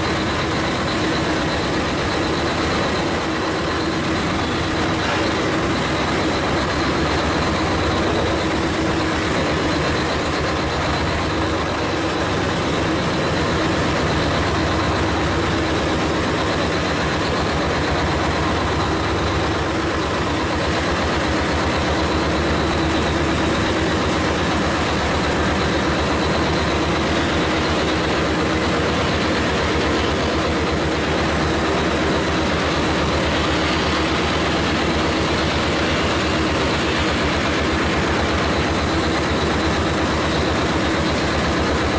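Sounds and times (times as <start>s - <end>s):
diesel engines idling: 0.0s - 41.9s
heavy machinery drone: 0.0s - 41.9s.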